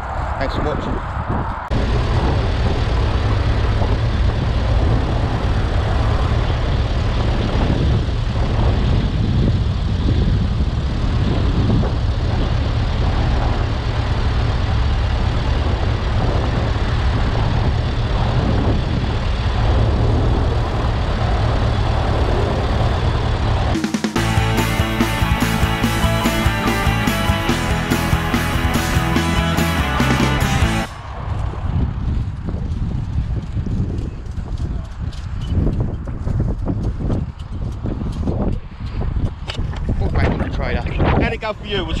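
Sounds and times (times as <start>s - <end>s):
tractor engine running: 1.7s - 42.0s.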